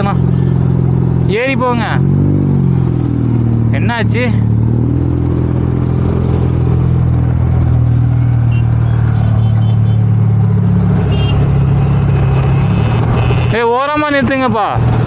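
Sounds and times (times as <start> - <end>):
vehicle engine running: 0.0 - 13.6.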